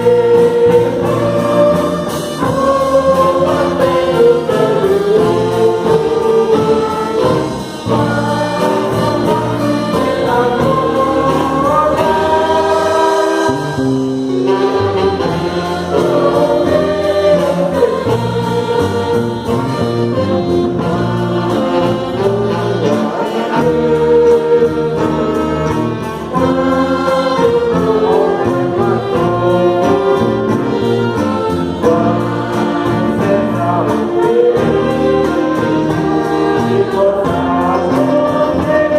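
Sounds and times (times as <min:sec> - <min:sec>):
orchestra playing sacred music: 0:00.0 - 0:38.9.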